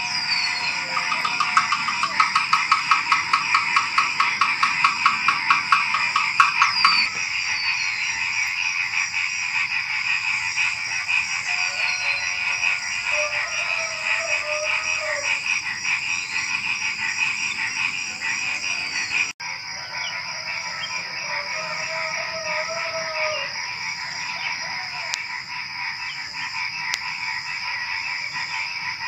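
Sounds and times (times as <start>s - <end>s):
crickets trilling: 0.0s - 29.0s
frog calls: 0.0s - 29.0s.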